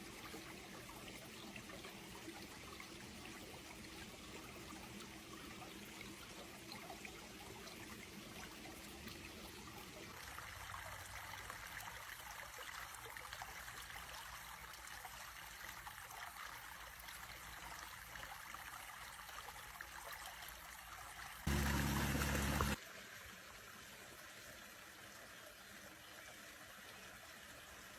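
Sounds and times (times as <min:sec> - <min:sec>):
creek water trickling over stones: 0:00.0 - 0:27.9.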